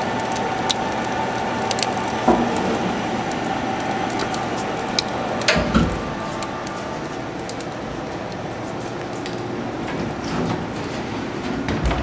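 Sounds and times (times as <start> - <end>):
conveyor machine hum: 0.0 - 12.0.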